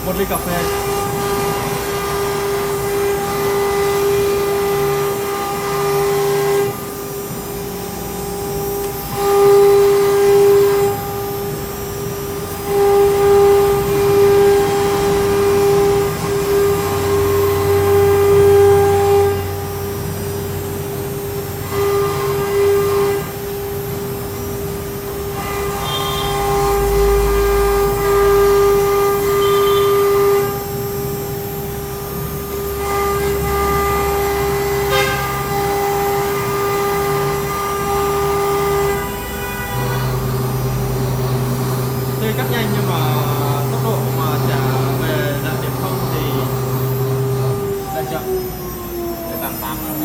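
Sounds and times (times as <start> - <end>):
router spindle whine: 0.0 - 50.0.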